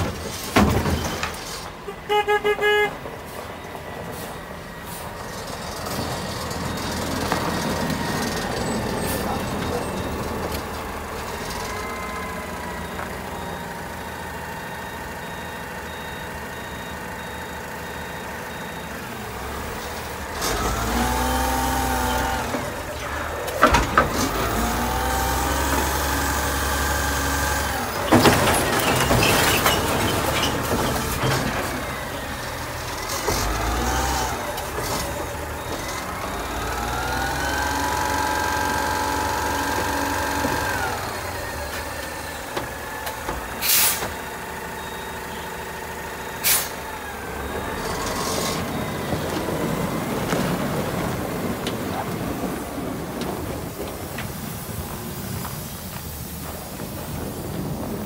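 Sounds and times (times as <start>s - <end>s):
truck engine revving: 4.2s - 15.0s, 19.0s - 58.0s.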